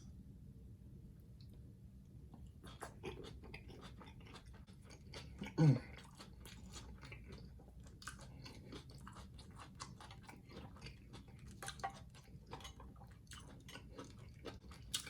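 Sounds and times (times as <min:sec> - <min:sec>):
chewing food: 0:02.3 - 0:15.0.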